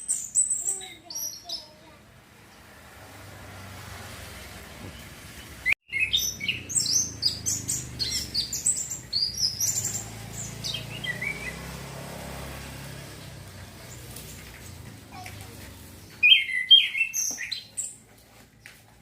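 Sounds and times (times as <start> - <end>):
thrush singing twittering phrases: 0.0 - 2.7, 4.4 - 15.2, 15.8 - 18.0.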